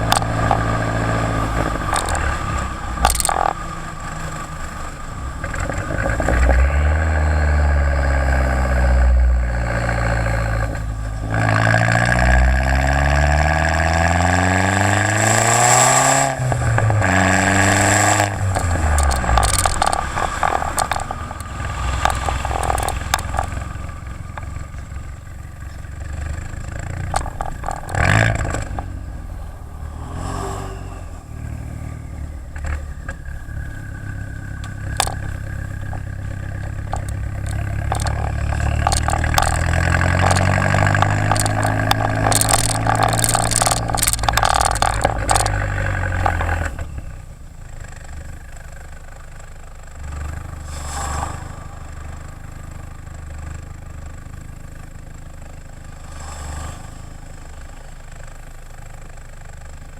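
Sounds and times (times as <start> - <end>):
car exhaust accelerating: 0.0 - 59.9.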